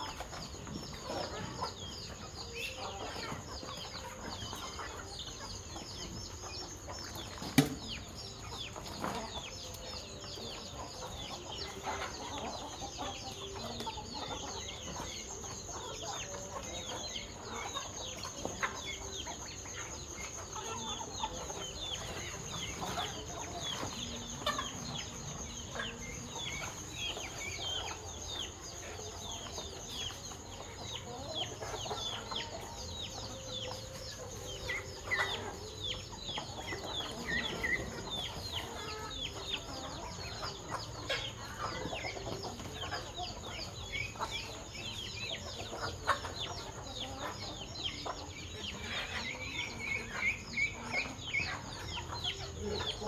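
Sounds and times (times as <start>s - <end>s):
chickens clucking: 0.0s - 53.0s
chicks peeping: 0.0s - 53.0s.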